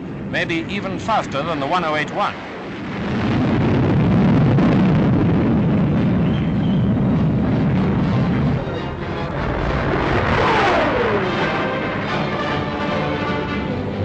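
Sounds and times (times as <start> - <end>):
jet roaring past: 0.0 - 14.0
jet whine falling in pitch: 0.1 - 14.0.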